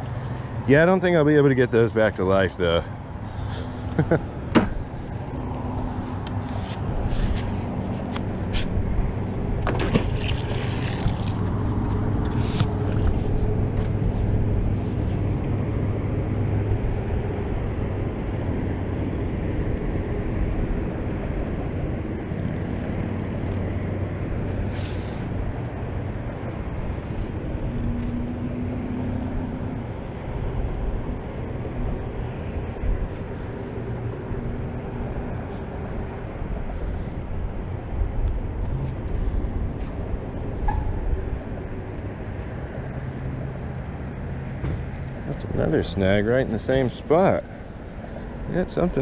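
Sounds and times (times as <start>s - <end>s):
engine humming: 0.0s - 49.0s.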